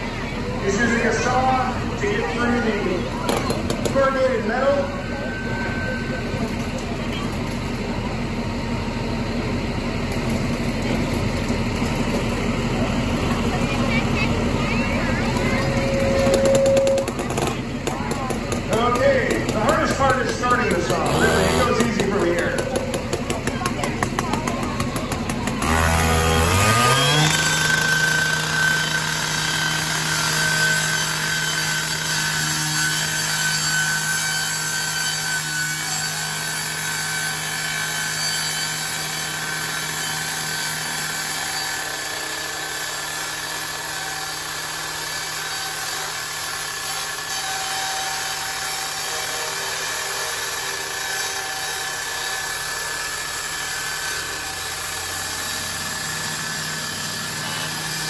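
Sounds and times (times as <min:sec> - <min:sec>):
power saw cutting metal sheet: 0:10.0 - 0:58.0.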